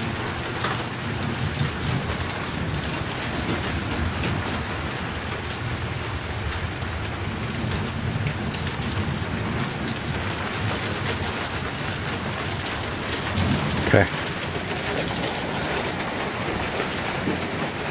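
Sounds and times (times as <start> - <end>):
rain pouring: 0.0 - 17.9
thunder rumbling: 0.0 - 17.9.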